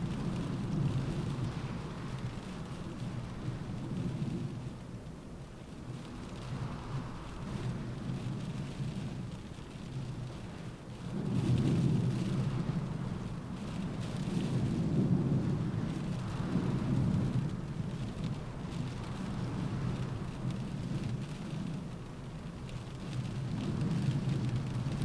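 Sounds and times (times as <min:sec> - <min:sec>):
rain on a window: 0:00.0 - 0:25.0
rumble of wind gusts: 0:00.0 - 0:25.0.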